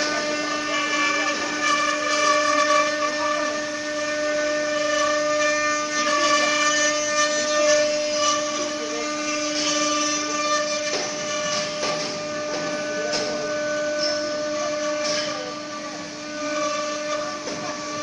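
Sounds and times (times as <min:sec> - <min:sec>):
router spindle whine: 0:00.0 - 0:18.0.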